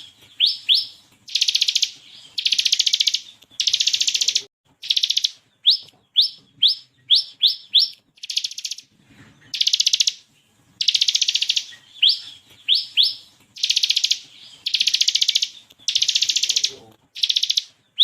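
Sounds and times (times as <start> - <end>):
buzzy rattling bird trills: 0.0 - 8.9, 9.5 - 18.0
bird singing sharp notes: 0.0 - 10.2, 10.8 - 18.0.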